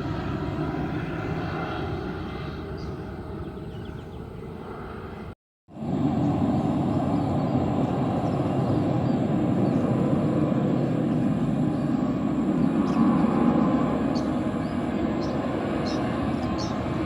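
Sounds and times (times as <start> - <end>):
jet engines at takeoff power: 0.0 - 17.0.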